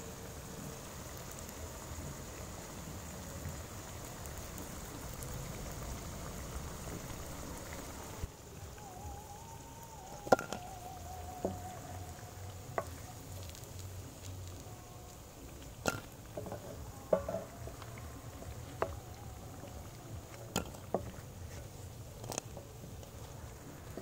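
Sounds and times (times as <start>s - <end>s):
fritters sizzling in hot oil: 0.0s - 24.0s.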